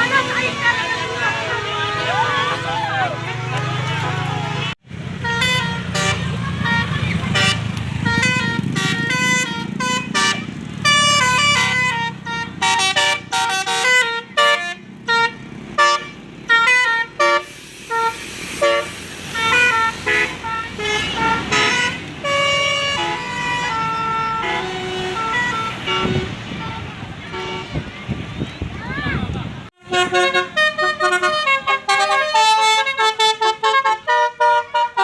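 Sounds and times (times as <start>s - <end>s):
bus horns playing a tune: 0.0s - 28.3s, 29.7s - 35.0s
bus engine rumble: 0.0s - 35.0s.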